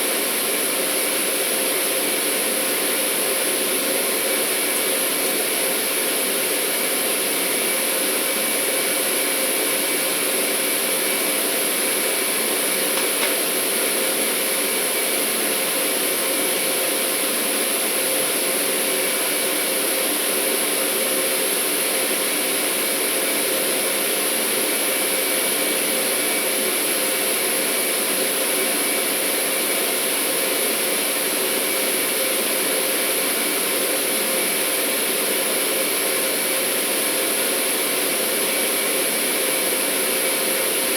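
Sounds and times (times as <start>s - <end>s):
industrial motors and pumps running: 0.0s - 40.9s.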